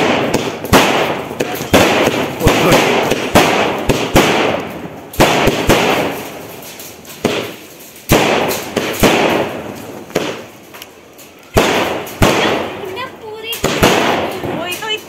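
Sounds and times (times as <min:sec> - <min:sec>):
firework bangs with crackling hiss: 0:00.0 - 0:15.0.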